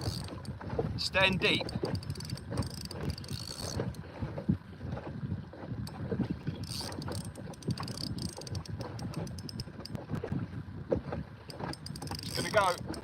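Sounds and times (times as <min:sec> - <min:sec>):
kayak and reel knocks and clicks: 0:00.0 - 0:00.9, 0:01.5 - 0:04.1, 0:05.8 - 0:13.0
water and wind rumble: 0:00.0 - 0:13.0.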